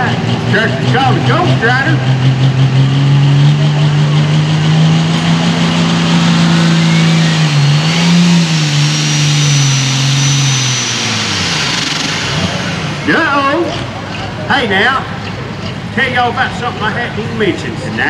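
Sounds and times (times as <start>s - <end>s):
diesel tractor engine under load: 0.0s - 18.0s
high turbo whine: 0.0s - 18.0s.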